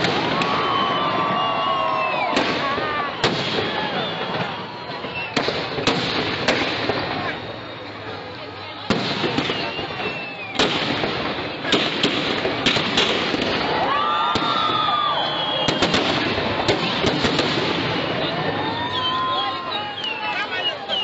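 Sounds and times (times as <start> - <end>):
fireworks bangs: 0.0 - 21.0
fireworks crackle and rumble: 0.0 - 21.0.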